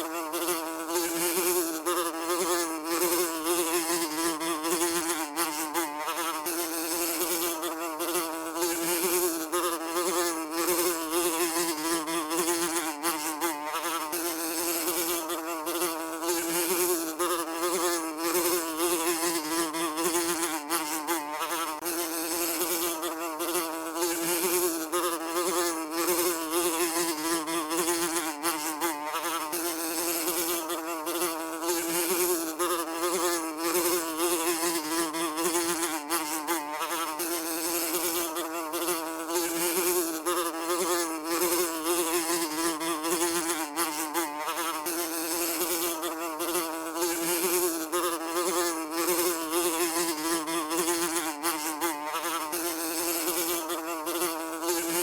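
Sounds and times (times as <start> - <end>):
housefly buzzing: 0.0 - 55.0.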